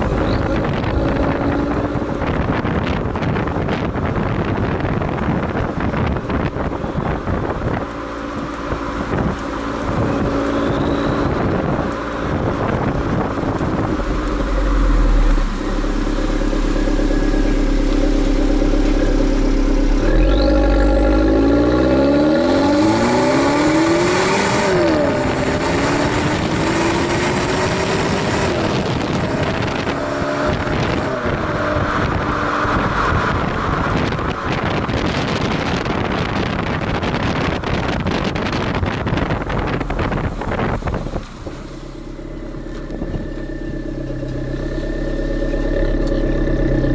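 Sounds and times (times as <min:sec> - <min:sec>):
car exhaust while driving: 0:00.0 - 0:46.9
wind rushing over microphone: 0:00.0 - 0:46.9.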